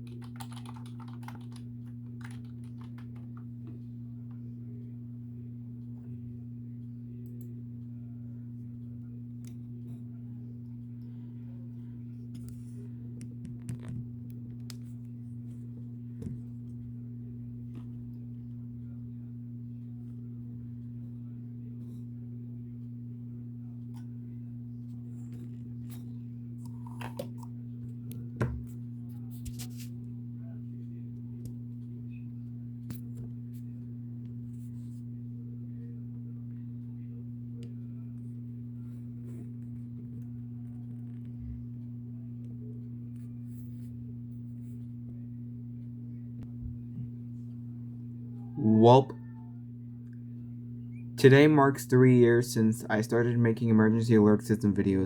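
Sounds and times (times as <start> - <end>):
steady low two-pitch hum: 0.0 - 55.0.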